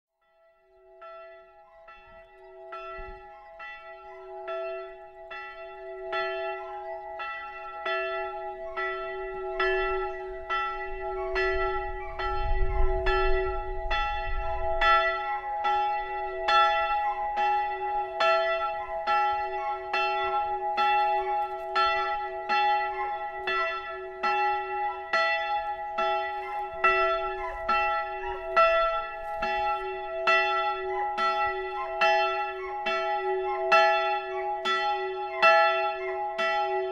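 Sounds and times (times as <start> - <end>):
church bell tolling: 0.2 - 36.9.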